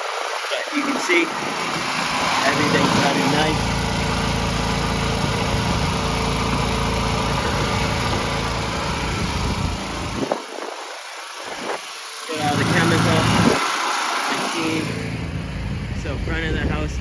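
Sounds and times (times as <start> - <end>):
small gas engine running: 0.0 - 17.0.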